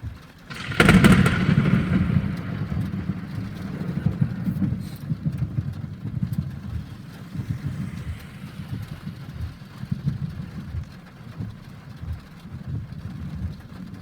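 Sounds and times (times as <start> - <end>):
heavy rain falling: 0.0 - 14.0
low thunder rumble: 0.0 - 14.0.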